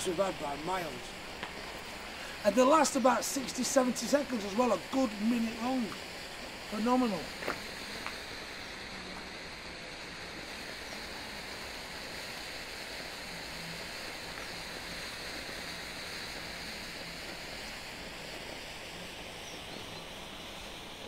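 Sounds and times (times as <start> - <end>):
smoke grenade hissing: 0.0 - 21.0.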